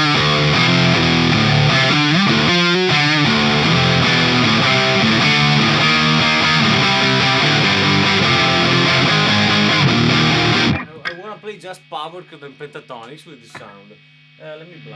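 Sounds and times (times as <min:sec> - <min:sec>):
distorted electric guitar: 0:00.0 - 0:14.9.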